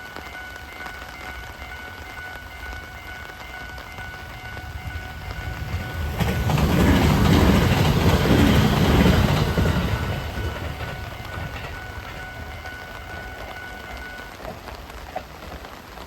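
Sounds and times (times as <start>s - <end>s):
crossing warning bell: 0.0s - 14.8s
train rumble and wheel clatter: 0.0s - 16.0s.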